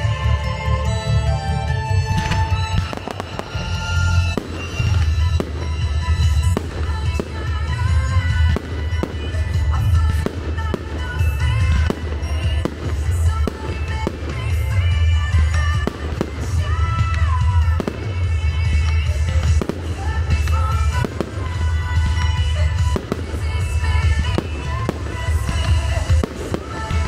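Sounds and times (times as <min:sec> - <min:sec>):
fireworks bursting and crackling: 0:01.9 - 0:27.0.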